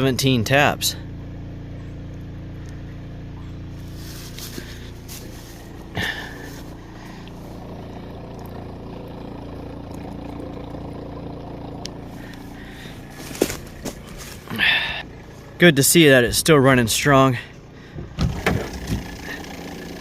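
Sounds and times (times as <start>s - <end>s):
vacuum pump humming: 1.0s - 20.0s.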